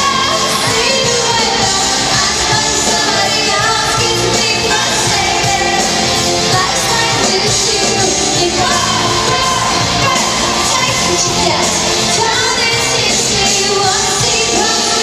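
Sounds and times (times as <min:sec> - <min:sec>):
electric guitar: 0:00.0 - 0:15.0
live band playing: 0:00.0 - 0:15.0
woman singing into microphone: 0:00.0 - 0:15.0.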